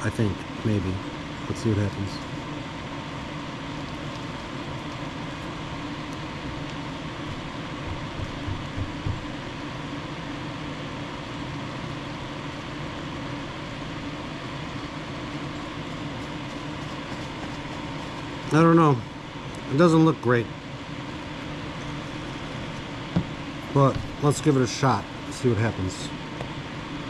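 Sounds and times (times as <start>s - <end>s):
fan-like hum and hiss: 0.0s - 27.0s.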